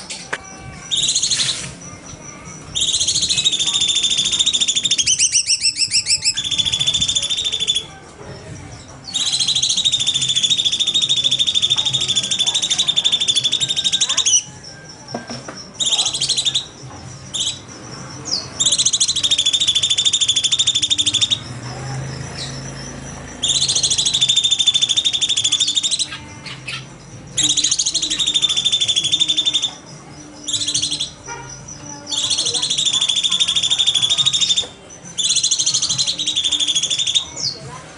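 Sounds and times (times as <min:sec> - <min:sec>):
bird singing rattling trills: 0:00.0 - 0:37.9.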